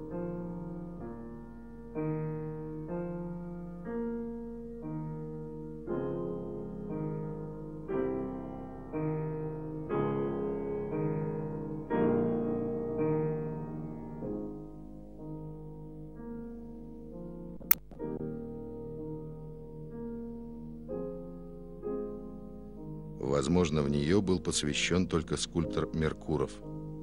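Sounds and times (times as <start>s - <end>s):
slow piano chords: 0.0s - 27.0s.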